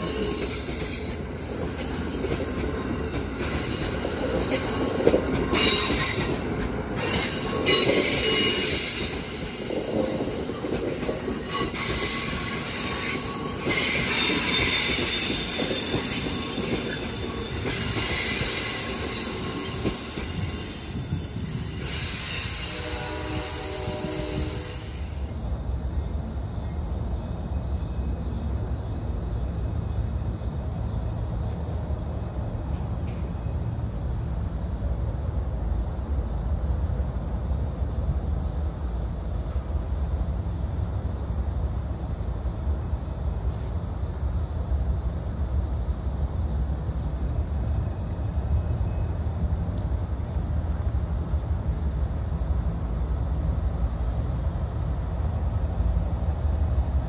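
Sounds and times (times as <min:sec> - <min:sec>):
diesel locomotive rumble: 0:00.0 - 0:57.0.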